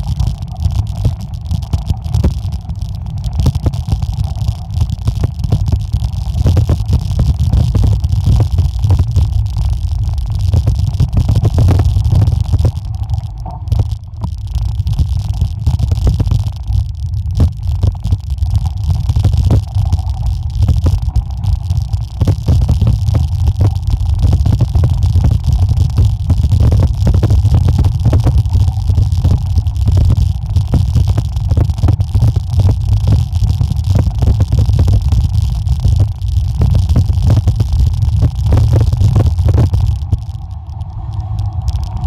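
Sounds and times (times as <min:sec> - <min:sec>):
small clicks and knocks: 0:00.0 - 0:42.0.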